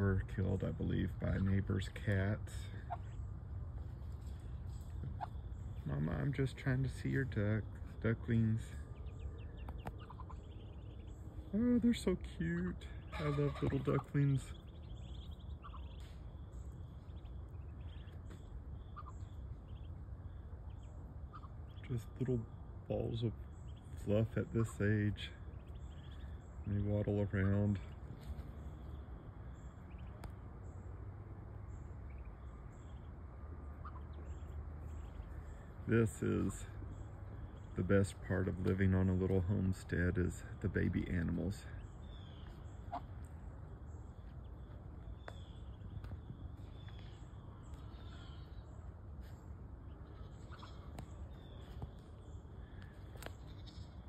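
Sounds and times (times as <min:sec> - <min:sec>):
ducklings peeping: 0:00.0 - 0:54.0
steady low rumble: 0:00.0 - 0:54.0.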